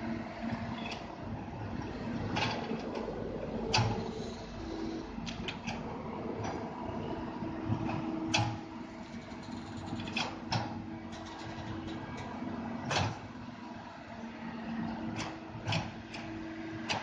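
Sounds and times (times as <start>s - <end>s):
excavator diesel engine humming: 0.0s - 15.3s.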